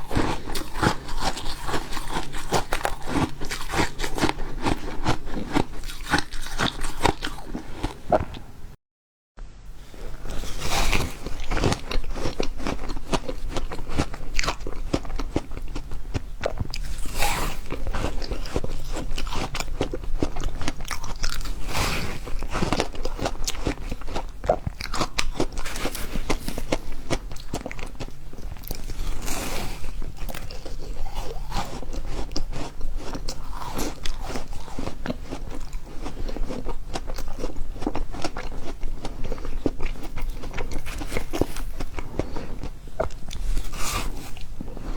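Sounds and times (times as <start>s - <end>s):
ice being chewed crunching: 0.0s - 8.5s, 10.3s - 44.9s.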